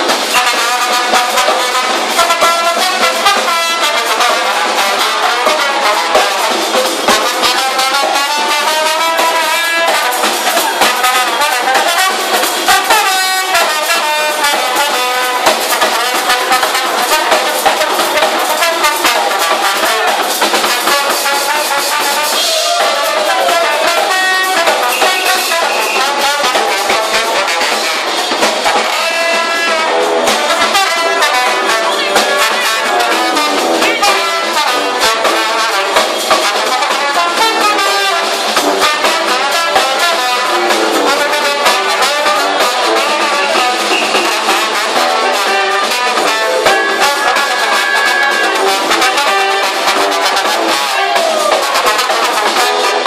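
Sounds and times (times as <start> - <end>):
brass band playing: 0.0 - 53.0
drum kit: 0.0 - 53.0
hand drum: 0.0 - 53.0.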